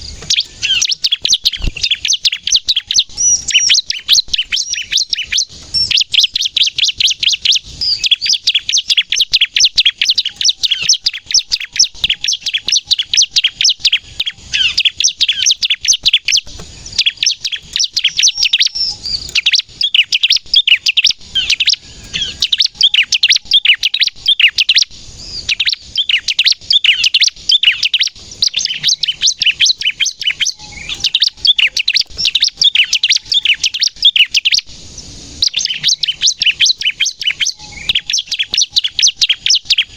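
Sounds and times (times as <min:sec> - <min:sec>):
bird singing fast high chirps: 0:00.0 - 0:39.9.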